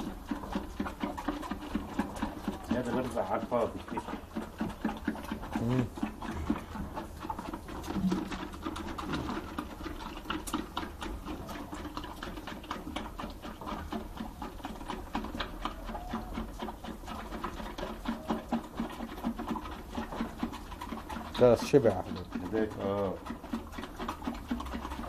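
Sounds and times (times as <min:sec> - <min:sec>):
goat kids sucking and smacking: 0:00.0 - 0:25.0.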